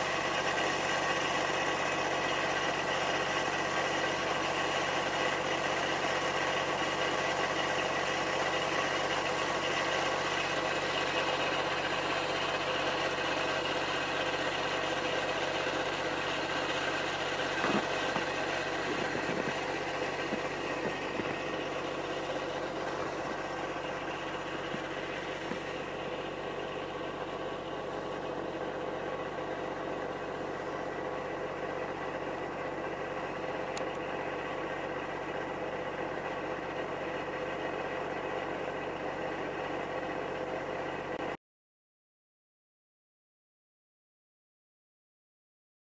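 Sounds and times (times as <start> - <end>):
engine idling: 0.0 - 41.4.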